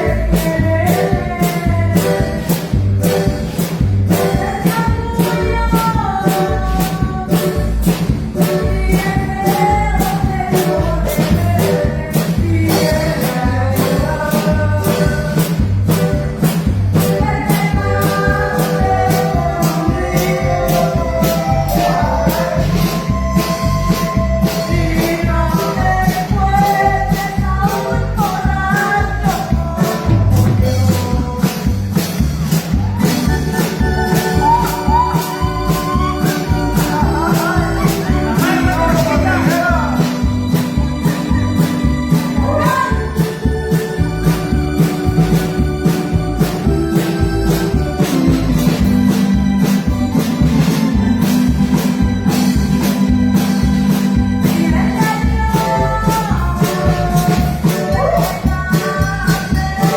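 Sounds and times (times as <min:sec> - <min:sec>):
keyboard-led song music: 0:00.0 - 0:59.9.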